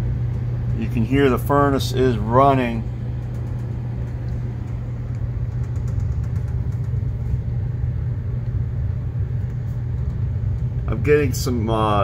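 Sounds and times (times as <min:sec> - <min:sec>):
ductwork vibrating: 0:00.0 - 0:12.0
furnace blower hum and rumble: 0:00.0 - 0:12.0.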